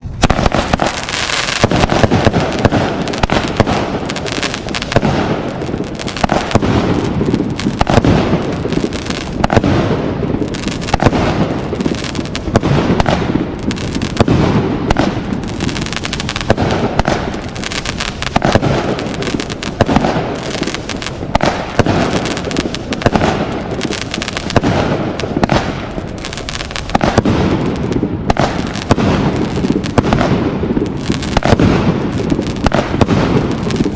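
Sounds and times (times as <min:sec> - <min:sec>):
fireworks firing and crackling: 0:00.0 - 0:33.9.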